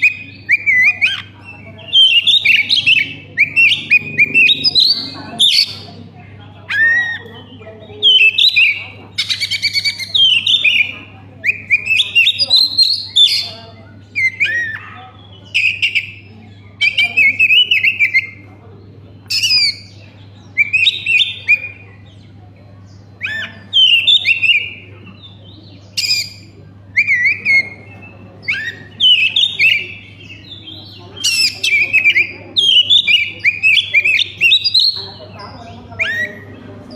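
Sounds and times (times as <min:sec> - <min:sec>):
bird singing whistled phrases: 0:00.0 - 0:05.9, 0:08.0 - 0:13.5, 0:14.1 - 0:18.4, 0:19.3 - 0:21.9, 0:23.2 - 0:35.1.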